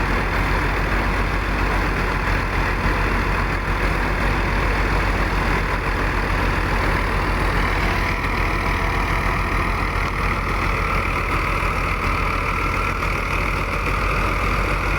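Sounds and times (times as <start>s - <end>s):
tractor engine running: 0.0s - 14.9s.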